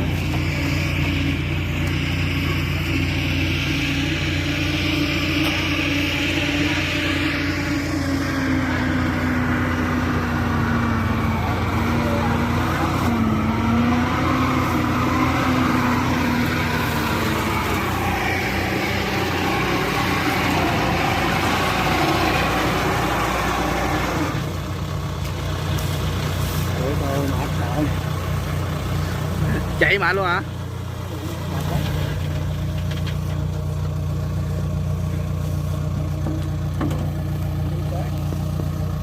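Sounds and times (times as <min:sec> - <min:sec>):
combine harvester engine running: 0:00.0 - 0:39.0.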